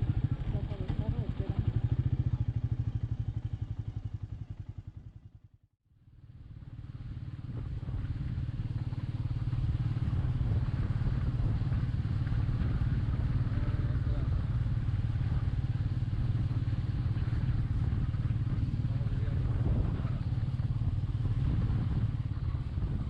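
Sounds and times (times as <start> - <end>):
single-cylinder engine running: 0.0 - 5.4, 6.2 - 23.0.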